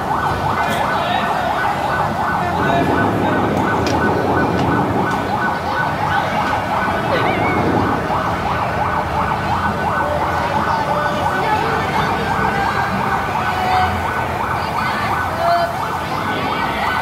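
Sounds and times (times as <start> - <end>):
fire engine siren yelping: 0.0 - 17.0.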